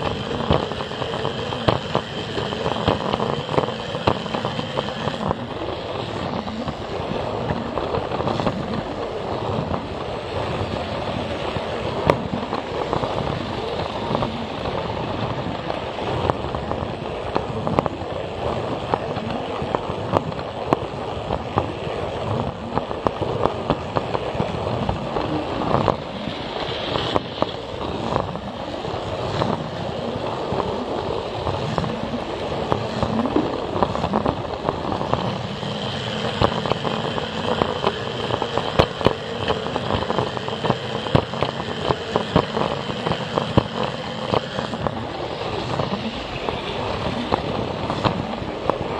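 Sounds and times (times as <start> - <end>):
high whine: 0.0 - 48.9.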